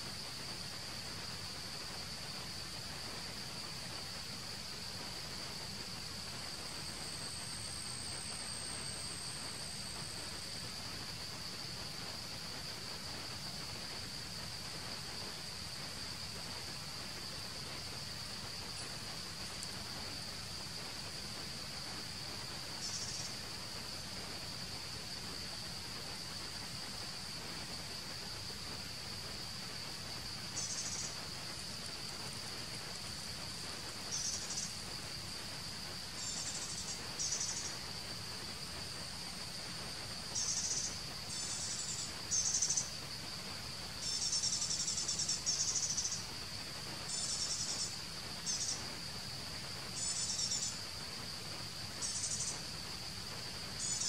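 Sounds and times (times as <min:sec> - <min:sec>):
insect chirping: 0:00.0 - 0:54.0
high-pitched insect drone: 0:05.1 - 0:54.0.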